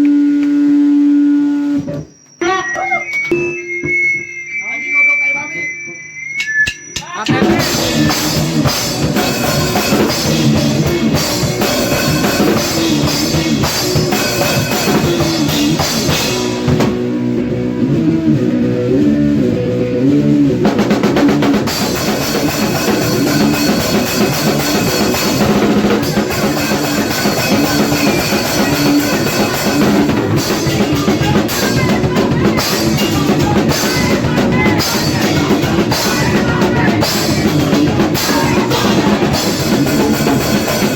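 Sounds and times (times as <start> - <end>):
distorted electric guitar riffing: 0.0 - 40.9
driving drum kit: 6.4 - 40.9
bass guitar: 7.1 - 40.9.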